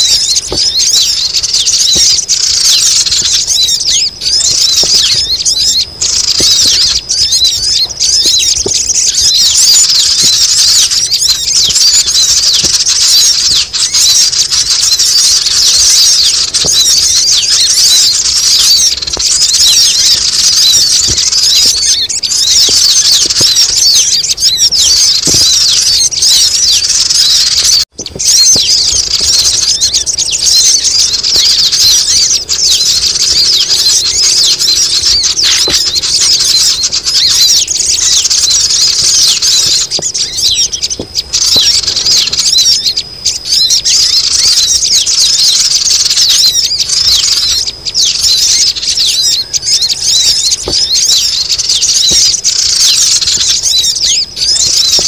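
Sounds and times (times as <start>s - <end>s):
birds chattering and squealing: 0.0s - 55.0s.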